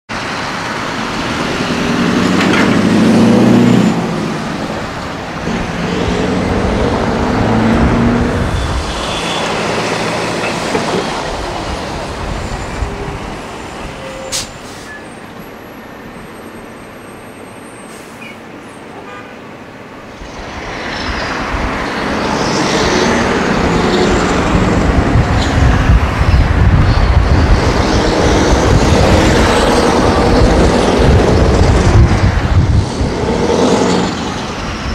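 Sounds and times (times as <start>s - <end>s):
truck engine with loud exhaust: 0.1s - 18.5s, 20.2s - 34.9s.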